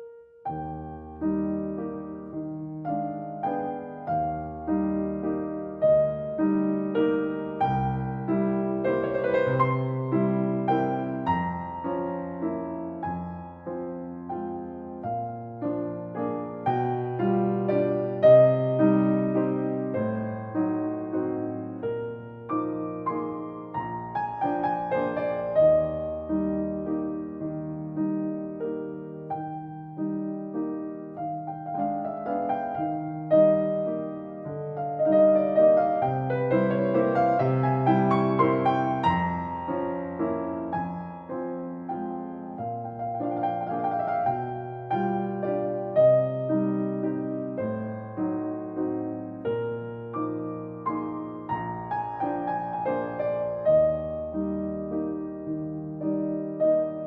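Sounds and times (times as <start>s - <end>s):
slow piano piece: 0.0s - 57.0s.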